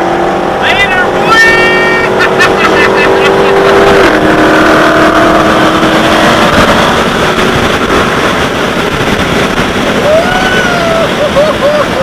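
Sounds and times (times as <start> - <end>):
loud car engine running: 0.0 - 12.0.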